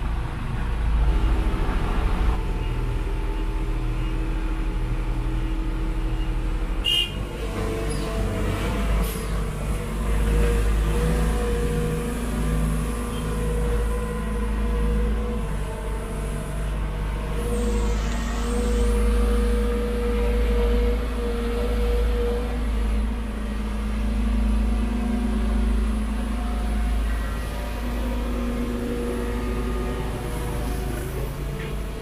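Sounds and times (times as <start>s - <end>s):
heavy diesel engines running: 0.0s - 32.0s.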